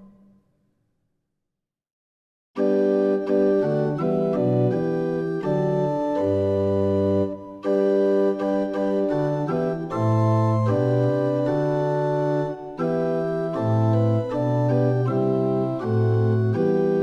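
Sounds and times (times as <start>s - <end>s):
organ bass line: 2.6s - 17.0s
organ playing sustained chords: 2.6s - 17.0s.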